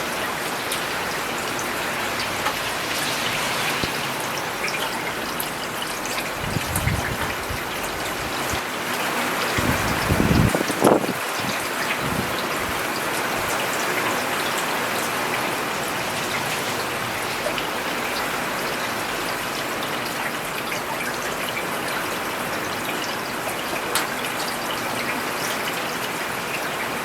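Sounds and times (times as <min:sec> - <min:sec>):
rain on a paved road: 0:00.0 - 0:27.0.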